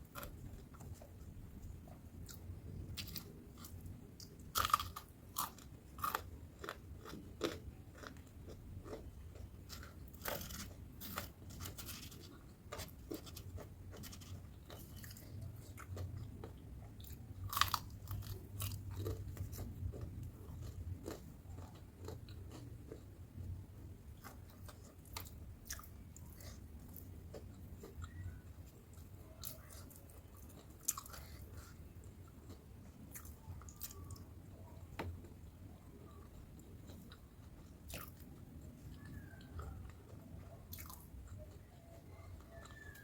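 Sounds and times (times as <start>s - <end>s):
crunchy chewing: 0.0s - 43.0s.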